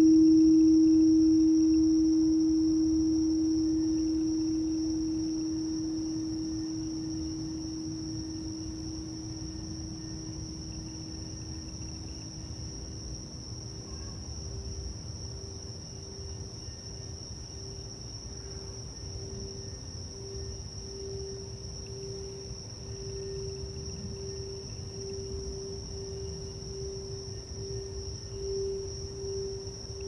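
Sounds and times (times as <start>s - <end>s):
crickets chirring: 0.0s - 30.0s
singing bowl sustained tone: 0.0s - 30.0s.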